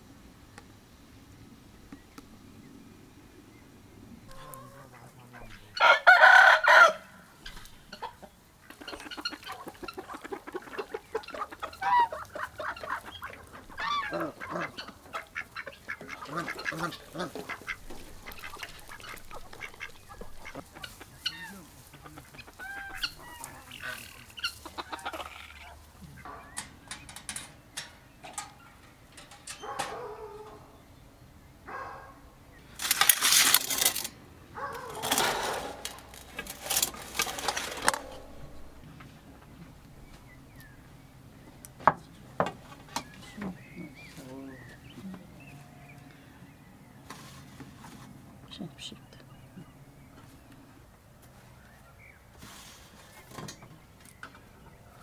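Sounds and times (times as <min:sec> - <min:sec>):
chickens clucking: 0:04.0 - 0:30.9, 0:32.6 - 0:51.6.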